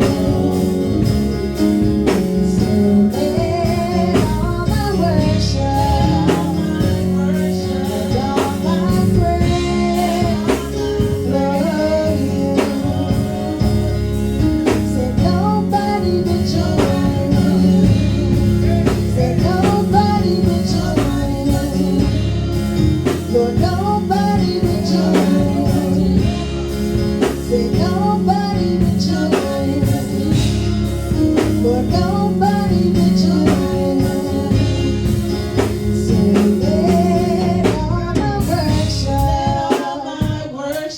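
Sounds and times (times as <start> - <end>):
band with drums and guitar: 0.0 - 40.9
person singing: 0.0 - 40.9.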